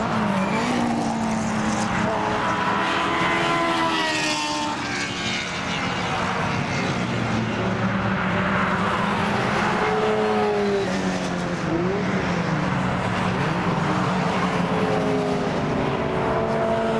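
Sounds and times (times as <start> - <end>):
race cars passing by: 0.0 - 16.9.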